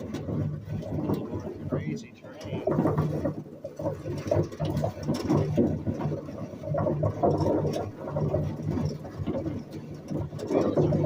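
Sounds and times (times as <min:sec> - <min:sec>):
metal wagon clattering: 0:00.0 - 0:11.0
wagon wheels rumbling: 0:00.0 - 0:11.0.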